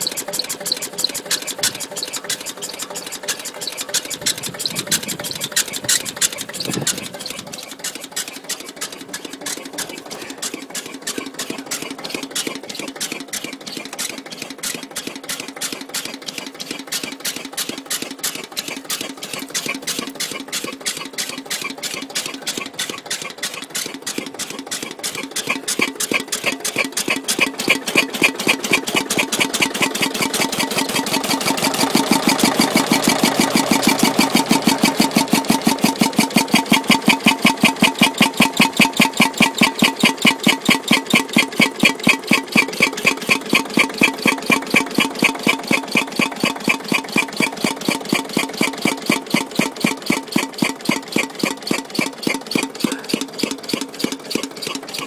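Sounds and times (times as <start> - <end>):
diesel engine firing beat: 0.0 - 55.0
regular squeak of oil pump arm: 0.0 - 55.0.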